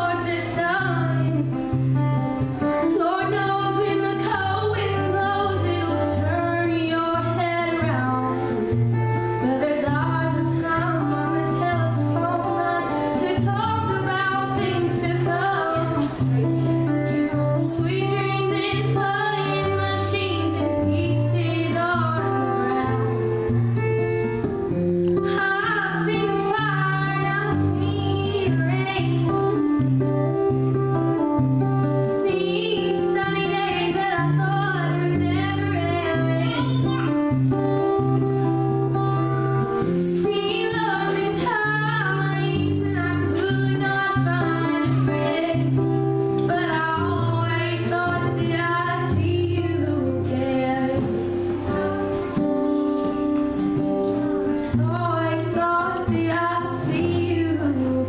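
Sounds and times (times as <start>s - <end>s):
acoustic guitar: 0.0s - 58.0s
woman singing into a microphone: 0.0s - 58.0s.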